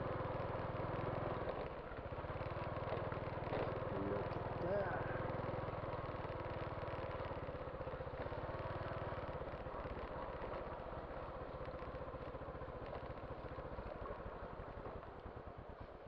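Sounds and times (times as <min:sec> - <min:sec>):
motorcycle engine puttering: 0:00.1 - 0:16.0.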